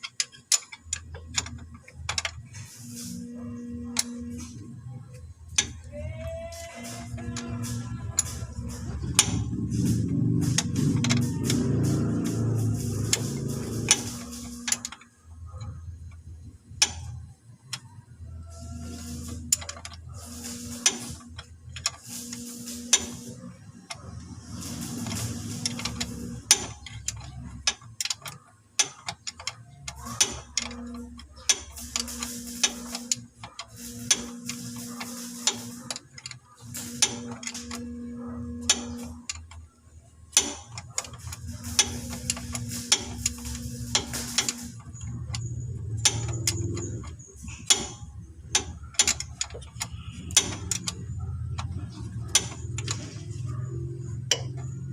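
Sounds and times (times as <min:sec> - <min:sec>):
ratchet wrench clicking: 0:00.0 - 0:39.7, 0:40.3 - 0:54.9.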